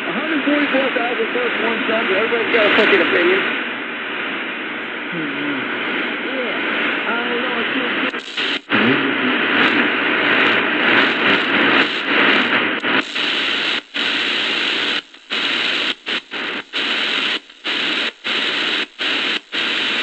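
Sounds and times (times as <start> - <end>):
radio static and hiss: 0.0 - 20.0.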